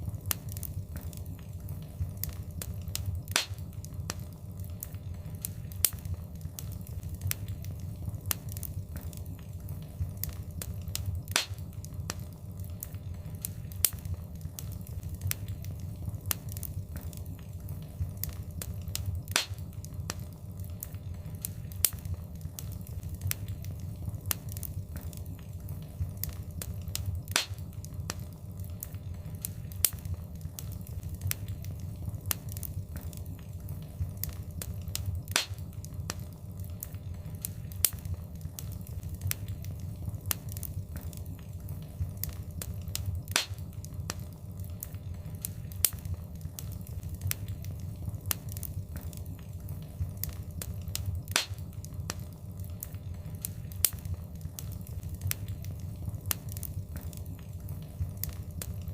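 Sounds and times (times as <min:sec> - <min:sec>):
low rumble of flames: 0:00.0 - 0:58.9
wood fire crackling: 0:00.0 - 0:58.9.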